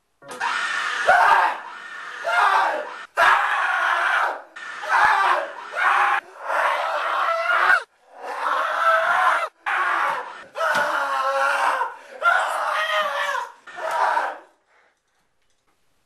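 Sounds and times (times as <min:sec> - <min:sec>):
young voices screaming: 0:00.3 - 0:14.4.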